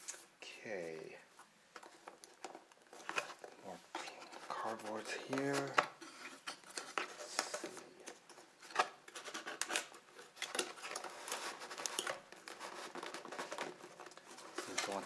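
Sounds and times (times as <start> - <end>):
cardboard scraping and rustling: 1.8 - 15.0.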